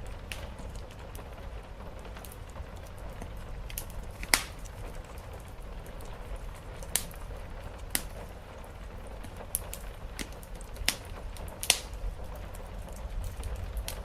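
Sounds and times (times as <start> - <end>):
rain rushing: 0.0 - 14.0
wood fire crackling: 0.0 - 14.0.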